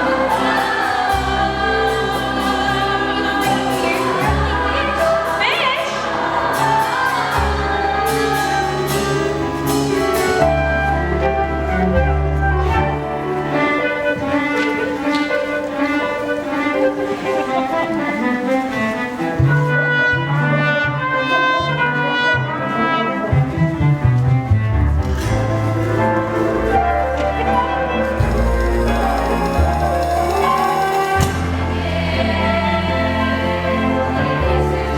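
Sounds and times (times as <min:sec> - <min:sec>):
pit orchestra playing: 0:00.0 - 0:34.9.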